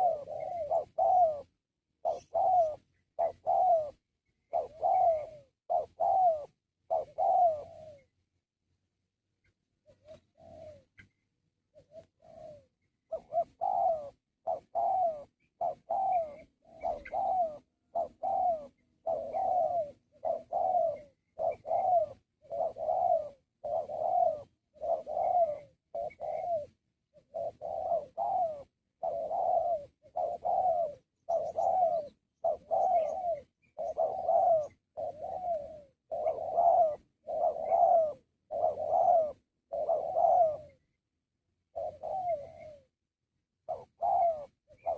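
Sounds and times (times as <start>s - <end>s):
dove cooing: 0.0s - 8.4s, 9.4s - 43.0s, 43.6s - 44.9s.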